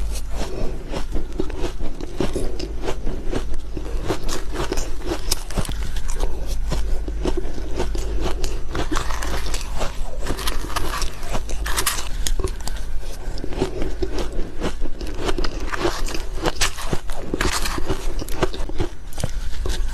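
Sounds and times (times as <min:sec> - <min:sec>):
ice crunching while chewed: 0:00.0 - 0:19.9
steady low hum: 0:00.0 - 0:19.9.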